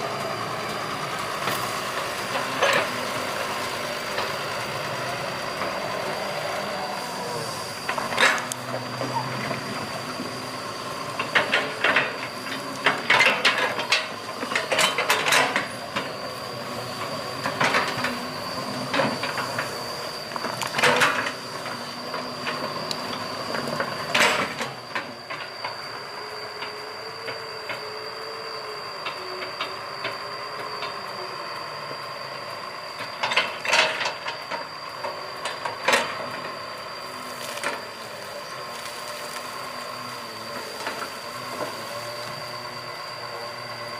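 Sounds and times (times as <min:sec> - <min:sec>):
excavator high whine: 0:00.0 - 0:43.9.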